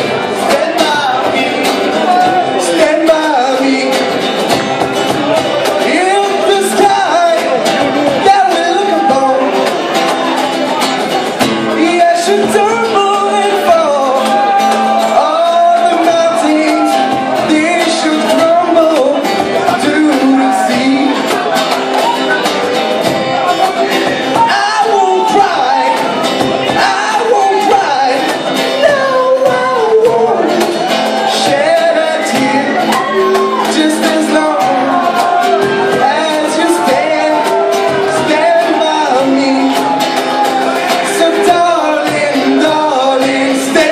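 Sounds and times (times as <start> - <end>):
band music with singer: 0.0 - 43.9.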